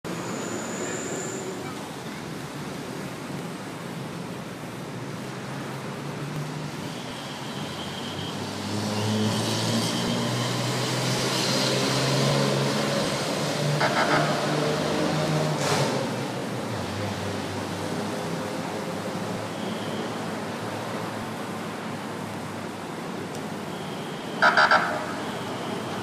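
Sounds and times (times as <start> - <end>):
city road traffic: 0.0 - 26.0.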